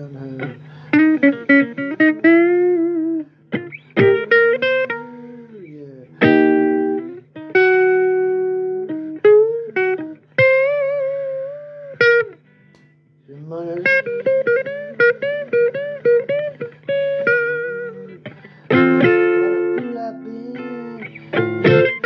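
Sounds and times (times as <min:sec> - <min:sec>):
blues guitar lead: 0:00.0 - 0:22.0.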